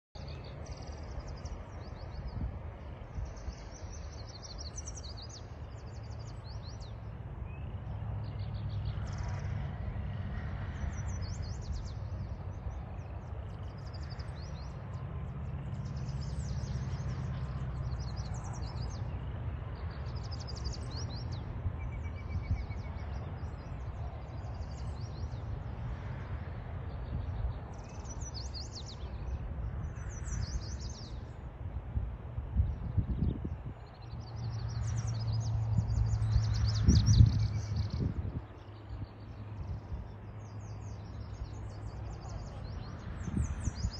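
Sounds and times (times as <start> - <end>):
small birds chirping trills: 0.2 - 31.9, 32.5 - 43.9
low outdoor rumble: 0.2 - 43.9.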